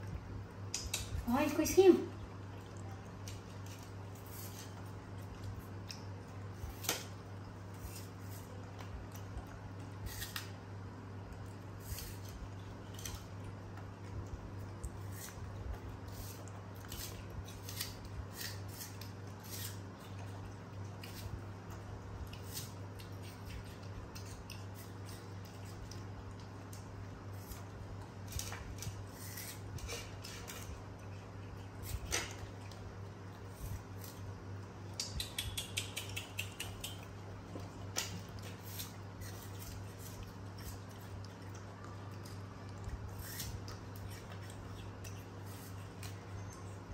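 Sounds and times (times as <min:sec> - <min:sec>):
steady low hum: 0:00.0 - 0:46.9
monkeys crunching apple: 0:02.1 - 0:46.9.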